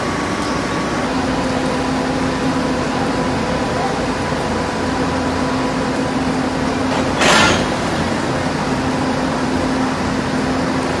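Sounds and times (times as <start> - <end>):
low mechanical hum: 0.0 - 11.0
steady rain: 0.0 - 11.0.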